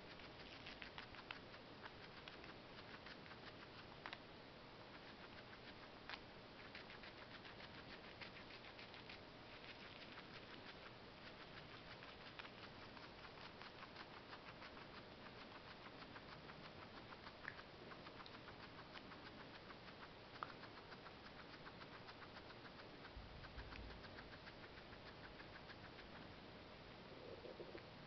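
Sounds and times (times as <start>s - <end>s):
guinea pig chewing: 0.0s - 26.4s.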